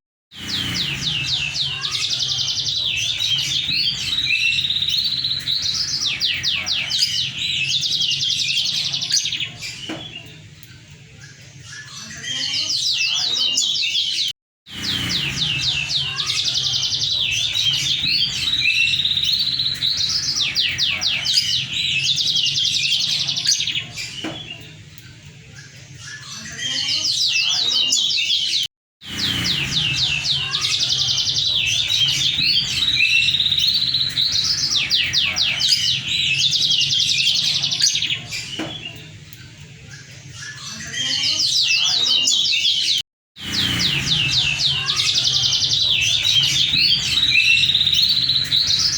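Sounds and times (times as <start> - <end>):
canary singing with rapid trills: 0.3 - 48.9.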